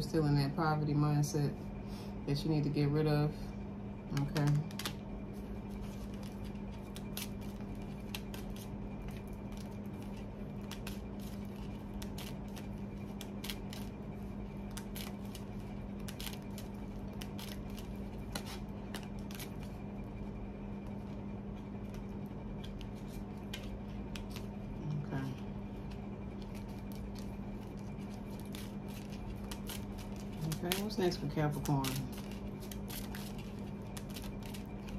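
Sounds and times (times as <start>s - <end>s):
steady low hum: 0.0s - 34.9s
cards being shuffled: 4.1s - 21.2s, 21.8s - 34.9s.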